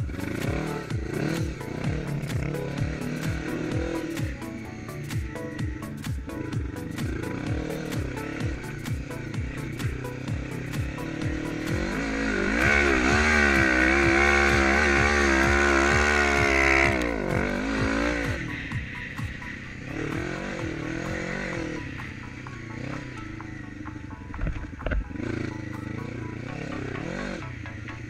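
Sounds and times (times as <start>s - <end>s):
quad engine revving: 0.0s - 5.2s, 5.9s - 28.0s
music with kick-drum beat: 0.0s - 28.0s.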